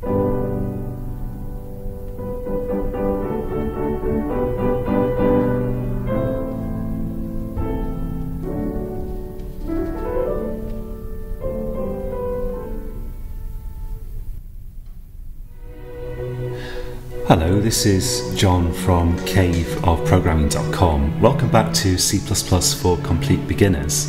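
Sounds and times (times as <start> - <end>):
piano melody: 0.0 - 14.4, 15.5 - 24.0.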